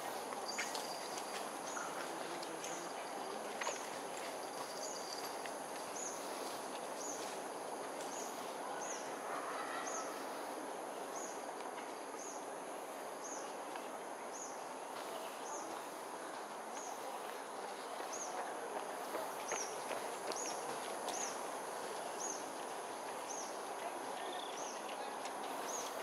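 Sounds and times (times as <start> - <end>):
background noise: 0.0 - 26.0.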